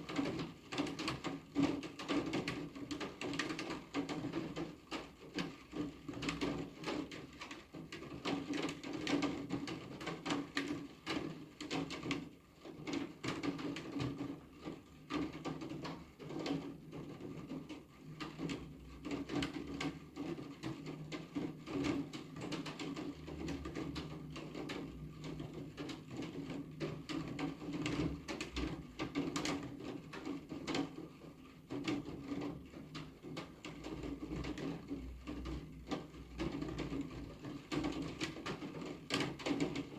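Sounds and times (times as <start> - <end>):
rain tapping on hard surface: 0.0 - 39.9.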